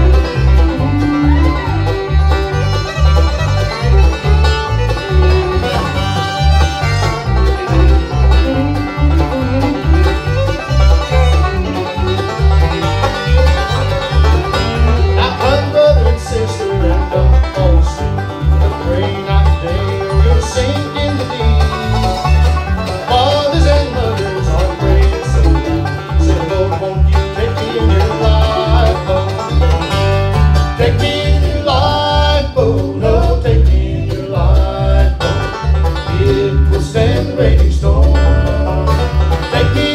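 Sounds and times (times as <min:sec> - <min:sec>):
electric bass beat: 0:00.0 - 0:39.9
fiddle: 0:00.0 - 0:39.9
live bluegrass band playing: 0:00.0 - 0:39.9
mandolin: 0:00.0 - 0:39.9
rolling banjo: 0:00.0 - 0:39.9
strummed acoustic guitar: 0:00.0 - 0:39.9.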